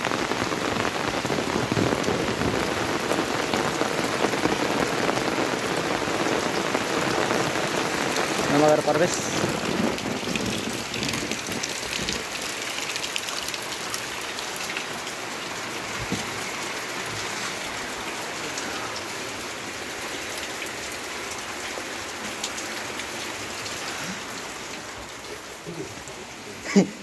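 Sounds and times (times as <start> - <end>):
raindrops ticking: 0.0 - 27.0
steady rain falling: 0.0 - 27.0.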